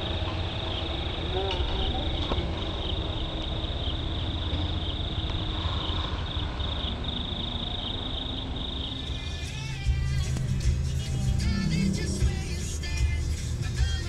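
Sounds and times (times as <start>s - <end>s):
insects trilling: 0.0s - 13.0s
low rumble: 0.0s - 14.0s.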